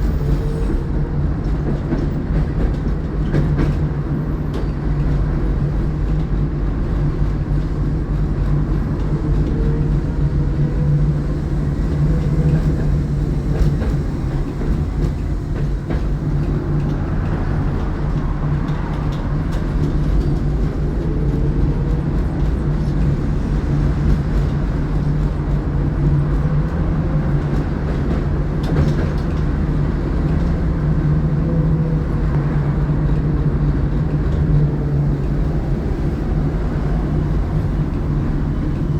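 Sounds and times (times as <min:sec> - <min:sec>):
tram wheels rumbling on rails: 0:00.0 - 0:38.9.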